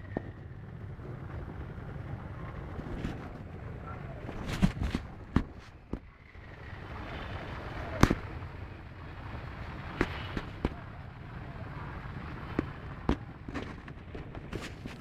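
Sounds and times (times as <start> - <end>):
low rumble of wind on microphone: 0.0 - 15.0.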